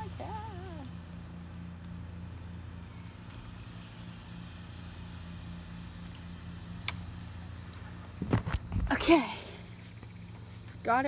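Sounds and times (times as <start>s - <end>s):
faint outdoor hiss: 0.0s - 11.0s
low mechanical hum: 0.0s - 11.0s.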